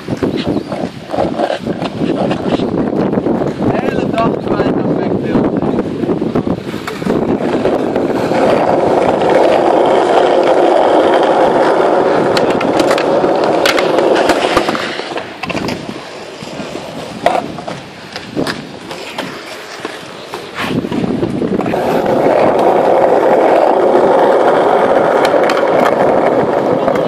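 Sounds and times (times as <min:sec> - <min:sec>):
skateboard clacking on ground: 0:00.0 - 0:04.3, 0:06.6 - 0:27.0
skateboard wheels rolling on asphalt: 0:00.0 - 0:27.0.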